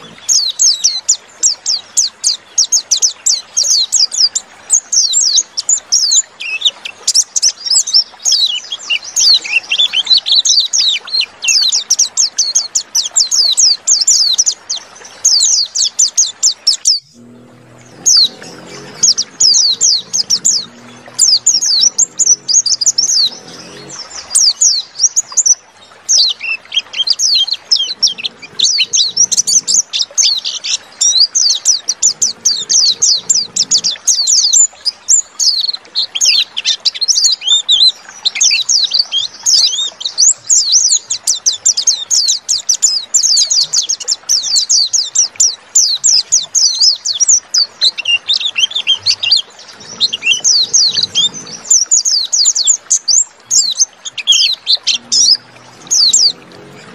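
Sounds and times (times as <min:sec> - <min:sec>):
bird twittering song: 0:00.0 - 0:56.9.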